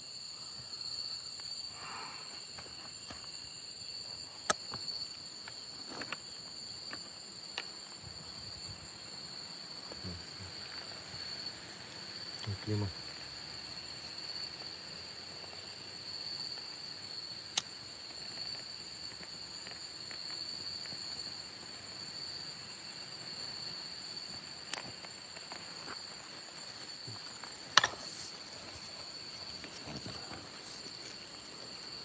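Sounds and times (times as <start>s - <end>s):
night insects chirring: 0.0s - 32.0s.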